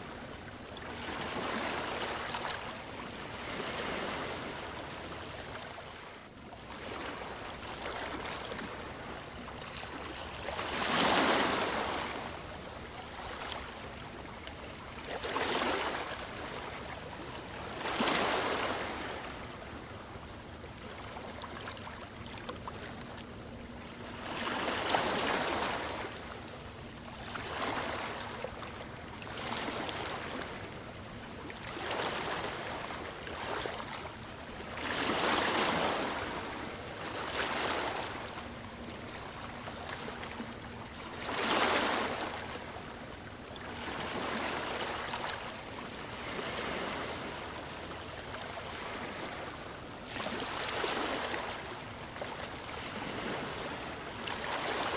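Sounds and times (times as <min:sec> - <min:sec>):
sea waves breaking: 0:00.0 - 0:06.0, 0:06.8 - 0:14.0, 0:15.1 - 0:19.8, 0:24.0 - 0:31.0, 0:31.6 - 0:54.9.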